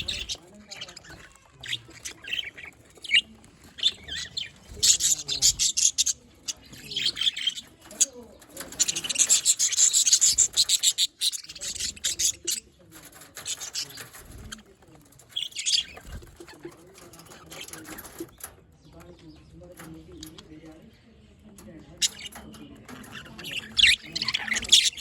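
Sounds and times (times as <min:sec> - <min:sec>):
budgerigars chirping: 0:00.0 - 0:14.6, 0:15.2 - 0:18.5, 0:21.9 - 0:25.0.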